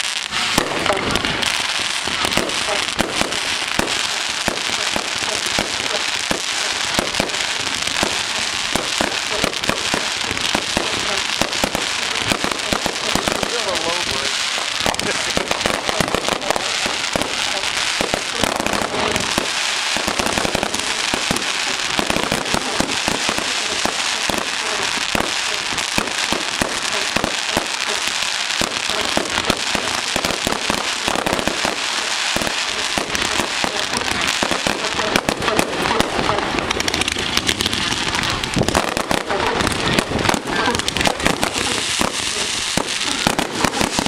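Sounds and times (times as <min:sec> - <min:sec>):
fireworks barrage of bangs: 0:00.0 - 0:44.0
fireworks crackle: 0:00.0 - 0:44.0.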